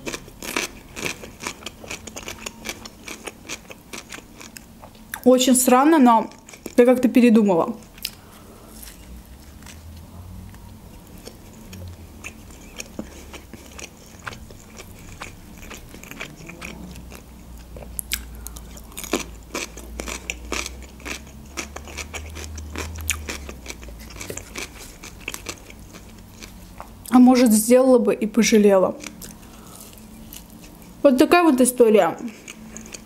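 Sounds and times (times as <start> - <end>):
person chewing crunchy food: 0.0 - 5.2, 6.3 - 6.8, 7.8 - 27.0, 29.0 - 31.0, 32.2 - 33.0.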